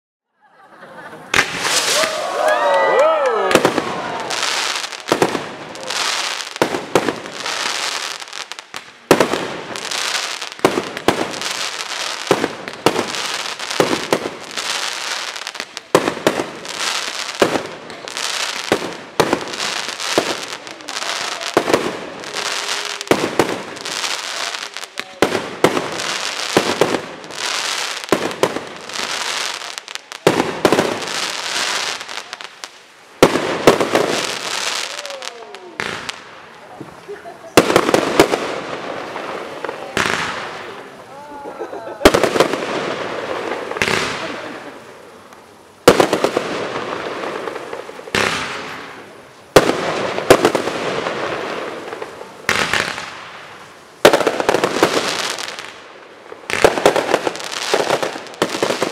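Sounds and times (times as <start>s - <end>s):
fireworks bangs: 1.0s - 58.9s
fireworks crackle: 1.2s - 58.9s.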